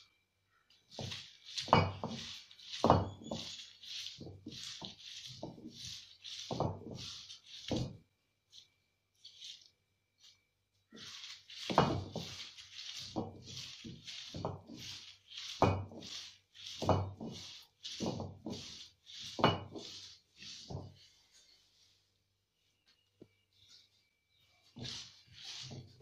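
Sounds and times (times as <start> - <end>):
stone roller scraping on stone slab: 0.8 - 21.2, 24.5 - 26.0.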